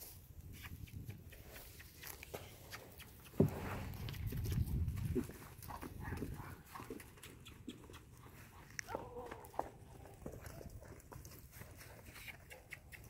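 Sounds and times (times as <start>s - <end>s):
horse hooves on dirt: 0.0s - 13.0s.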